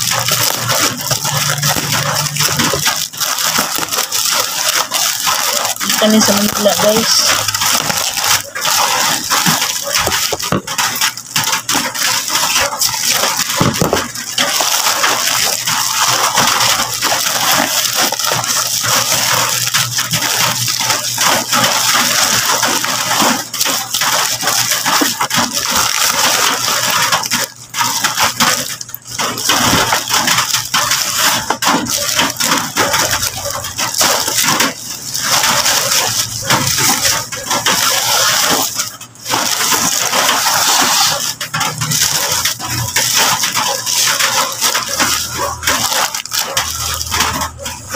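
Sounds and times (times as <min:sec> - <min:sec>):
plastic bag crinkling: 0:00.0 - 0:47.9.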